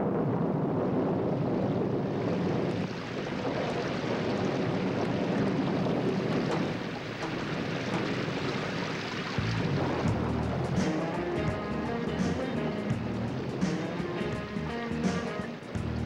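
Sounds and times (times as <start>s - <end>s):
creek water flowing over rocks: 2.3s - 16.0s.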